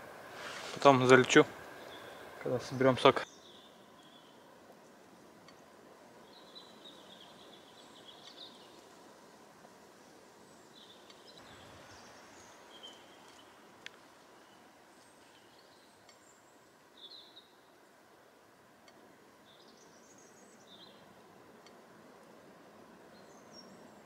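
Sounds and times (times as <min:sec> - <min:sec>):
forest background hiss: 0:00.0 - 0:24.0
songbird chirps: 0:00.0 - 0:24.0.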